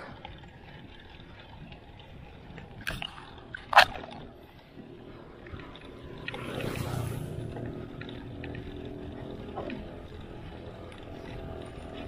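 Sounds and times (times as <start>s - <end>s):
wind and road rumble: 0.0s - 12.0s.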